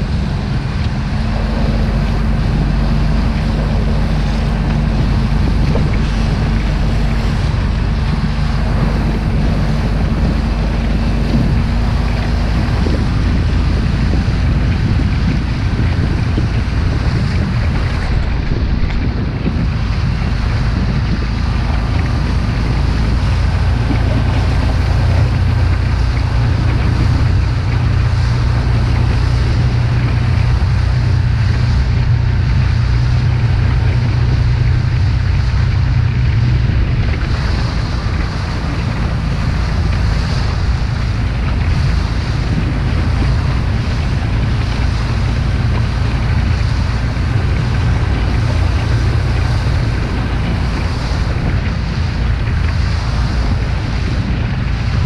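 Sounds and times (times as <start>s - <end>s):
outboard motor running: 0.0s - 55.0s
water splashing on hull: 0.0s - 55.0s
wind buffeting microphone: 0.0s - 55.0s.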